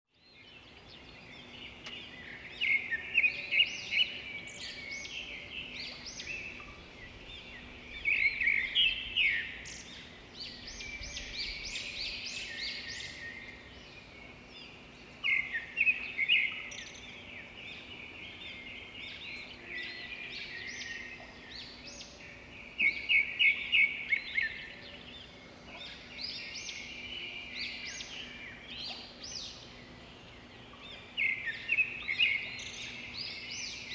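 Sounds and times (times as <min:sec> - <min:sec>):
birds calling and singing: 0:00.1 - 0:33.9.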